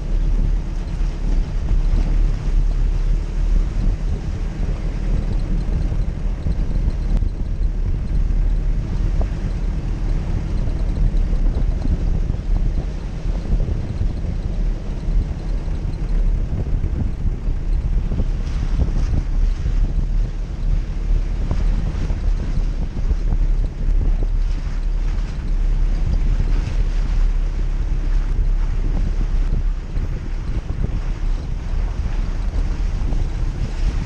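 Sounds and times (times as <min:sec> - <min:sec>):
vehicle engine running: 0:00.0 - 0:34.0
wind buffeting microphone: 0:00.0 - 0:34.0.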